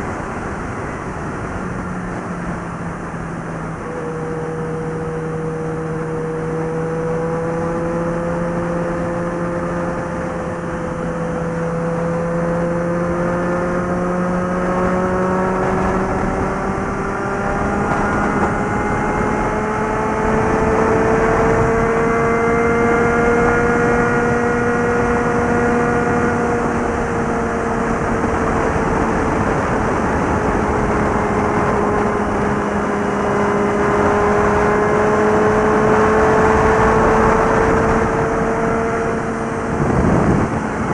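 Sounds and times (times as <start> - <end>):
motorcycle engine at speed: 0.0 - 40.9
wind and road noise: 0.0 - 40.9.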